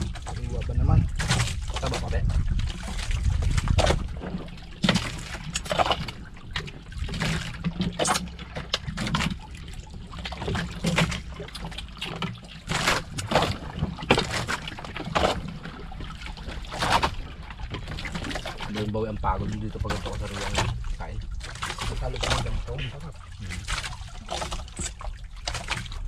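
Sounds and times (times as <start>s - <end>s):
low steady rumble: 0.0s - 26.0s
water lapping against boat hull: 0.0s - 26.0s.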